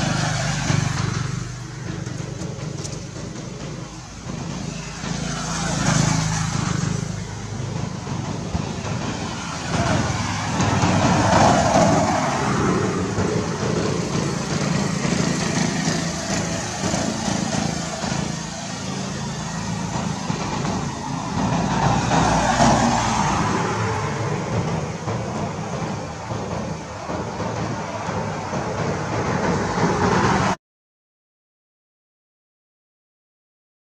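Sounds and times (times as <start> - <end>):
rumble of passing vehicles: 0.0 - 30.6.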